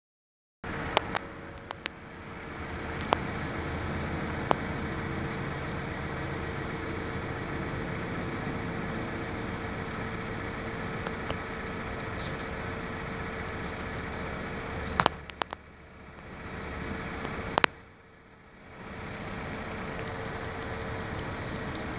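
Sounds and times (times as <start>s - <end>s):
engine idling: 0.6s - 21.9s
sharp clicks: 0.8s - 16.4s, 17.2s - 17.8s, 18.8s - 21.9s.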